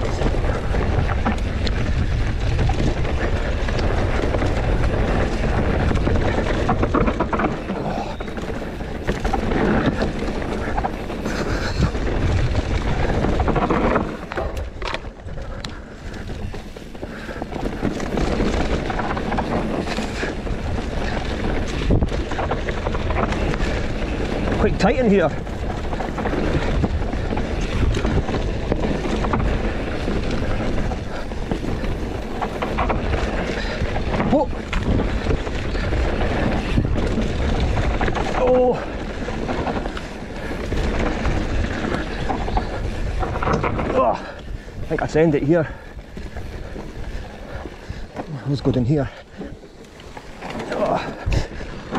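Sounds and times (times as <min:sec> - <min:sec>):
bike clattering over bumps: 0:00.0 - 0:51.9
bike tyres on dirt: 0:00.0 - 0:51.9
wind buffeting microphone: 0:00.0 - 0:51.9.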